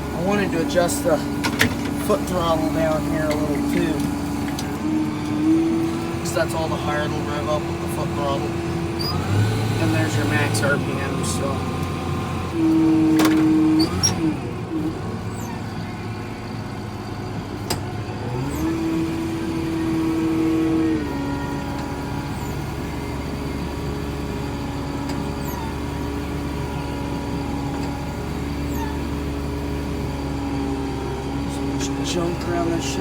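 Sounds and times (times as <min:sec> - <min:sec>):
diesel tractor engine revving: 0:00.0 - 0:33.0.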